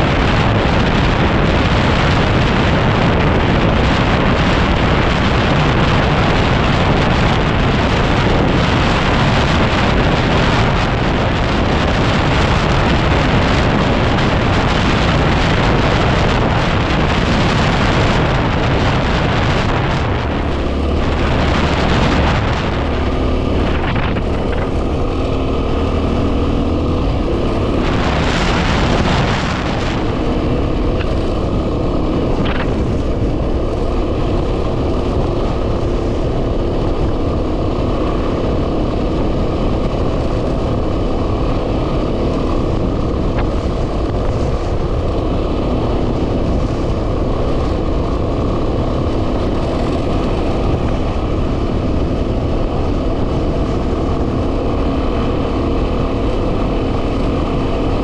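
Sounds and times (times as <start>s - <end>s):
motorcycle engine running: 0.0s - 58.0s
wind buffeting on microphone: 0.0s - 58.0s.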